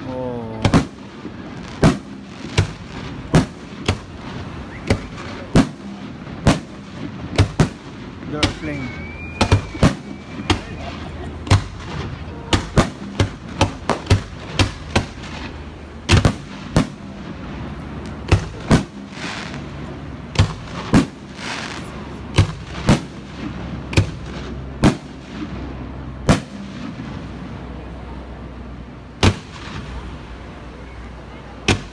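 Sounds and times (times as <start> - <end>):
fireworks bursting with sharp bangs: 0.0 - 31.9.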